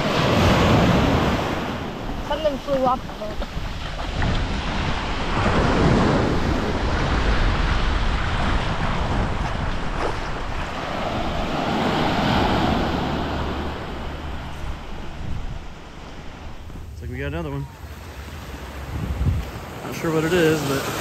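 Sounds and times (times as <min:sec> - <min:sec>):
wind buffeting microphone: 0:00.0 - 0:20.0
surf breaking on a beach: 0:00.0 - 0:21.0.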